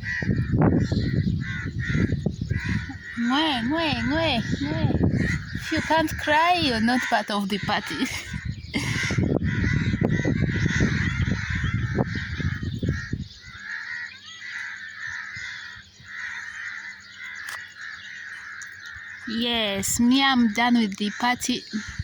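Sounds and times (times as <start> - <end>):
flock of birds chattering: 0.0 - 22.0.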